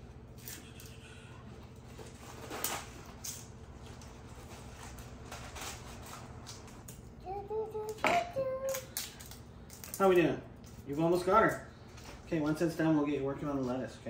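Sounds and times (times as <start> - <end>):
low appliance hum: 0.0 - 14.0.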